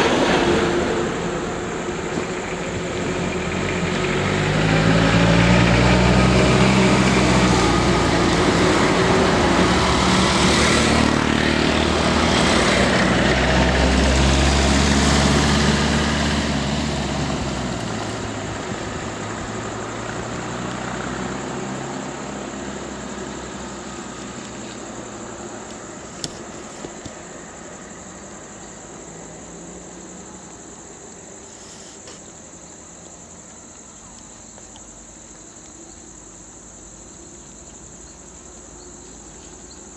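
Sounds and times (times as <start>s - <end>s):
road vehicle engines running: 0.0s - 39.9s.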